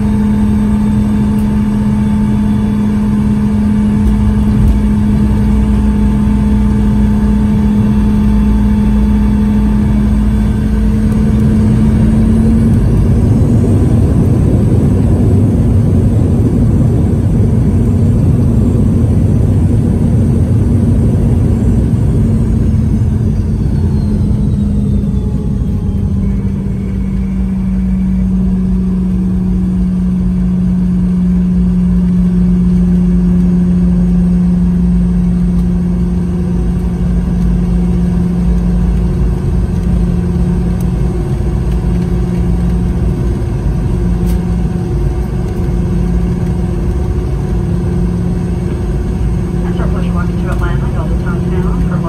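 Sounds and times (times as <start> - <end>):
faint high whine: 0.0 - 52.0
jet engines rumbling and humming: 0.0 - 52.0.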